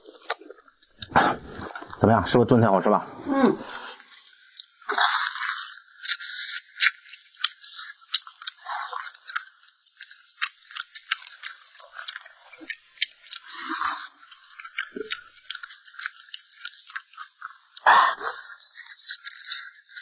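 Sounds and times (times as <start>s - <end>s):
wet chewing with mouth clicks: 0.0s - 2.0s, 4.4s - 20.0s.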